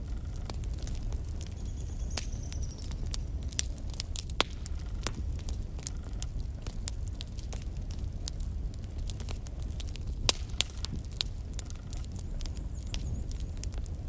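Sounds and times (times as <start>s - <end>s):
logs crackling and popping: 0.0s - 14.0s
low fire rumble: 0.0s - 14.0s.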